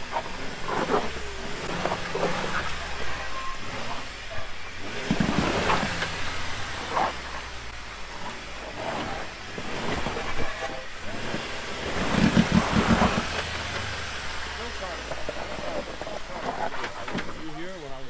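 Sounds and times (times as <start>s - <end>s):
engine revving: 0.0s - 18.0s
tires spinning in mud: 0.0s - 18.0s.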